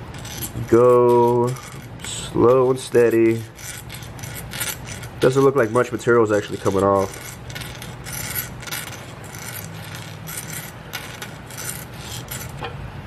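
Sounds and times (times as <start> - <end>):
hand file rasping on steel: 0.0 - 12.6.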